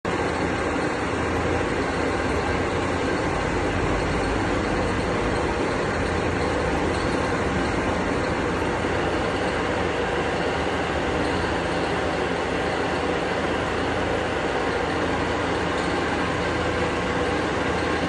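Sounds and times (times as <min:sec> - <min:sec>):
machine running steadily: 0:00.0 - 0:18.0.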